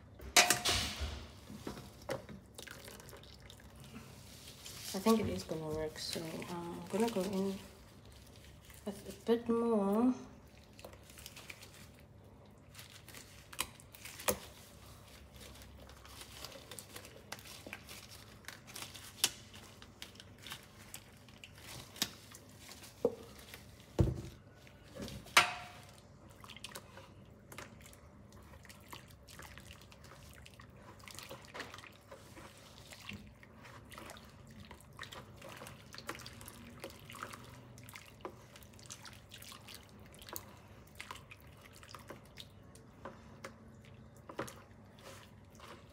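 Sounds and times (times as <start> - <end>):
brush stirring liquid: 1.4 - 45.9.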